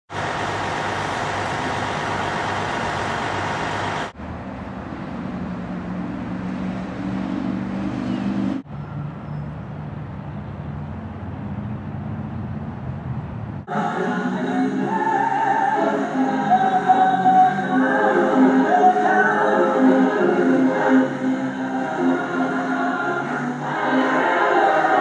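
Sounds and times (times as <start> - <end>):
street traffic noise: 0.1 - 25.0.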